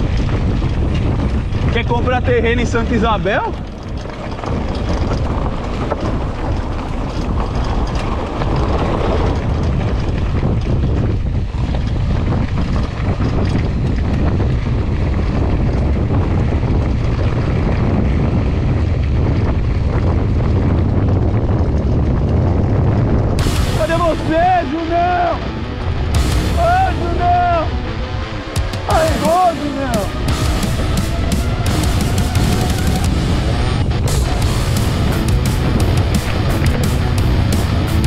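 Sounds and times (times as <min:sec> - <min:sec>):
bike clicks and rattles: 0:00.0 - 0:38.0
low rumble: 0:00.0 - 0:38.0
wind buffeting microphone: 0:00.0 - 0:38.0.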